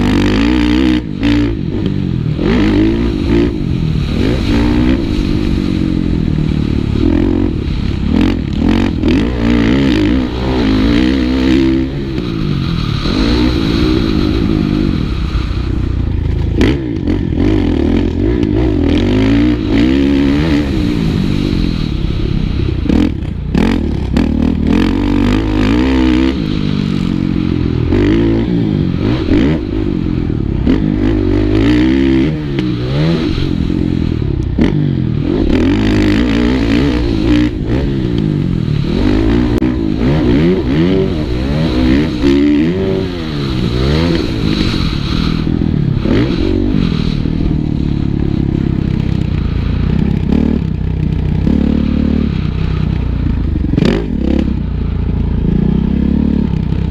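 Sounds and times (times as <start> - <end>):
motocross bike engine revving: 0.0 - 56.9
wind rumble on microphone: 0.0 - 56.9.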